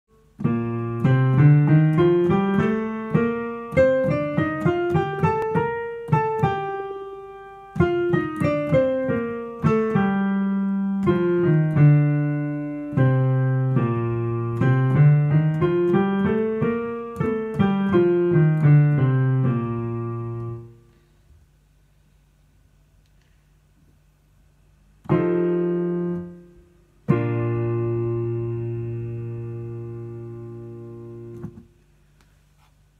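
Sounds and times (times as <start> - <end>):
digital piano playing scales: 0.1 - 20.8, 25.0 - 31.6.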